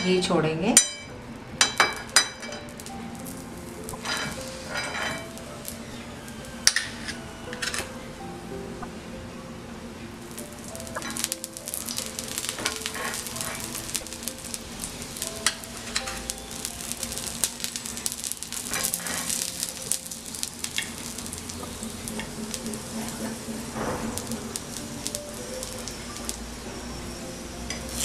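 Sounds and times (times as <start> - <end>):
ghee sizzling and crackling: 0.0 - 9.0, 9.6 - 28.0.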